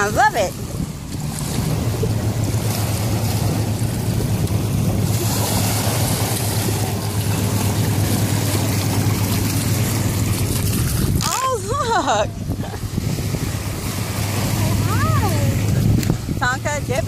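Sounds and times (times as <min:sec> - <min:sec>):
small waves lapping: 0:00.0 - 0:17.0
steady low hum: 0:00.0 - 0:17.0
water splashing: 0:00.0 - 0:17.0
wind on microphone: 0:00.0 - 0:17.0.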